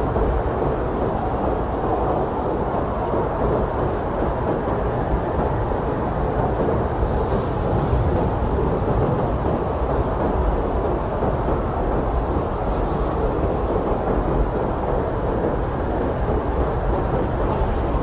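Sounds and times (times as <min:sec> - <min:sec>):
blizzard wind blowing: 0:00.0 - 0:18.0.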